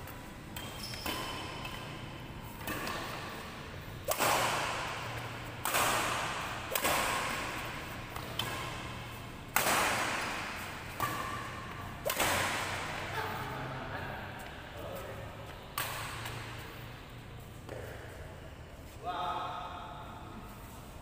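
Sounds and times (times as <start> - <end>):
rackets hitting shuttlecock: 0.0 - 17.0, 17.6 - 18.3.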